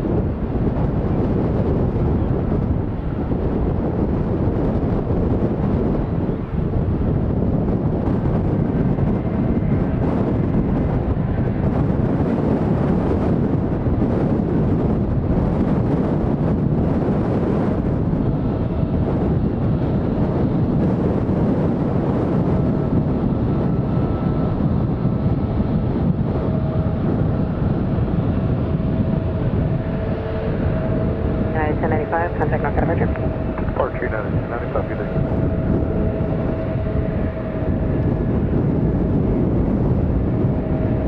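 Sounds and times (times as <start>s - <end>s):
distant jet engines rumbling: 0.0s - 41.0s
faint engine whine: 0.0s - 41.0s
wind buffeting microphone: 0.0s - 41.0s.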